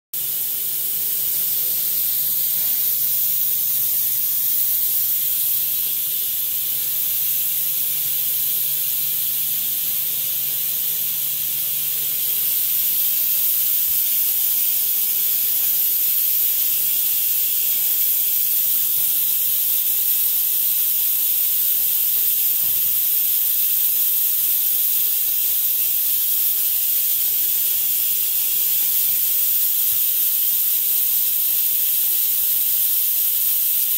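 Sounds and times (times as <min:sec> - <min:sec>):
high-pitched hiss: 0:00.2 - 0:33.9.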